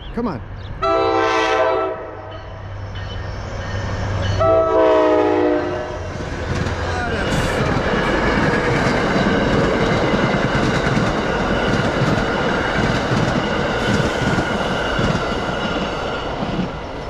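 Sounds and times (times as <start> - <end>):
train wheels rushing on rails: 2.2 - 17.0.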